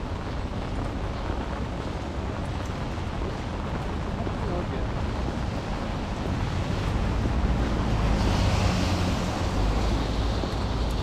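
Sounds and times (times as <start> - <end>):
low traffic rumble: 0.0 - 11.0
rain hissing: 0.0 - 11.0
tyres on wet road: 0.0 - 11.0.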